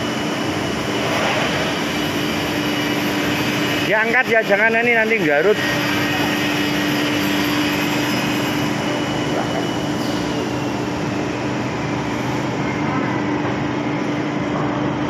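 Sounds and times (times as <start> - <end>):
constant hum: 0.0 - 15.0
mill machinery drone: 0.0 - 15.0.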